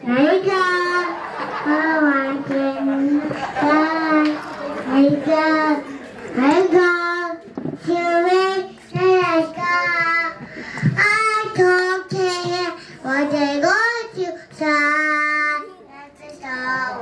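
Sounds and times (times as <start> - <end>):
girl singing: 1.6 - 17.0.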